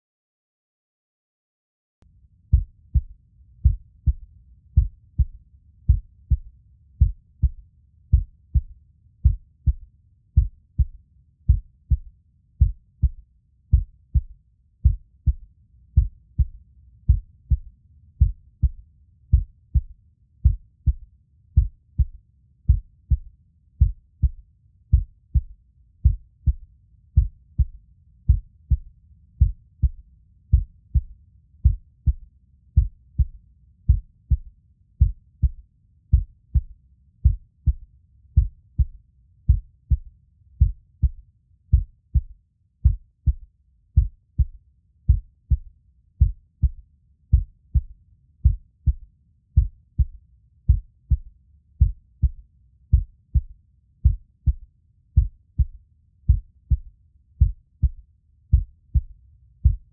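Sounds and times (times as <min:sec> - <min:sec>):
heartbeat thuds: 0:02.5 - 0:15.4, 0:16.0 - 0:26.6, 0:27.2 - 0:49.0, 0:49.6 - 0:54.6, 0:55.2 - 0:59.9.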